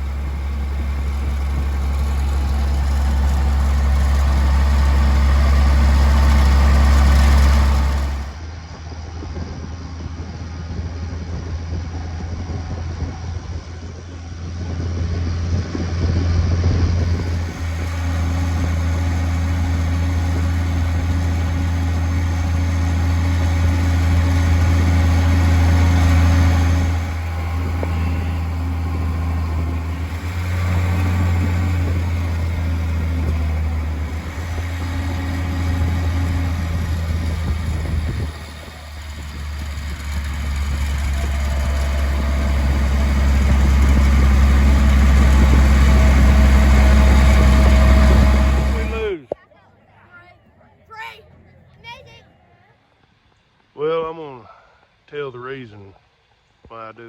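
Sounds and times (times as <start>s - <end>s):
vehicle engine droning: 0.0s - 54.3s.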